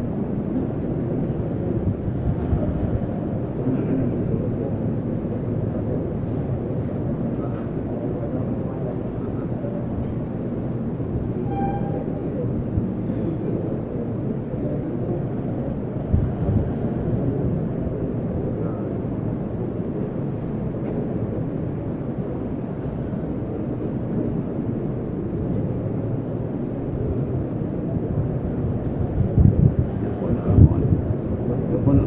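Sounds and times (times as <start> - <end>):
room noise rumble in a hall: 0.0 - 32.0.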